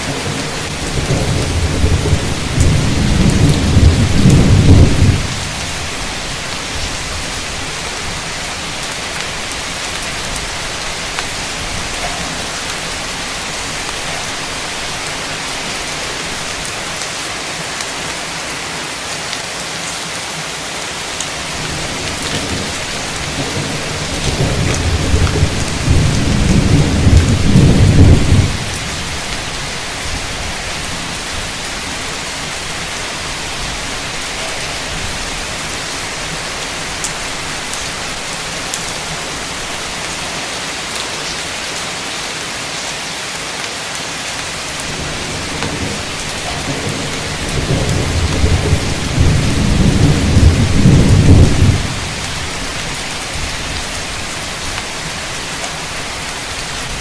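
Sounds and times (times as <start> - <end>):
thunder rumbling: 0.0 - 16.7, 21.4 - 40.3, 44.7 - 55.2
torrential rain hissing: 0.0 - 57.0.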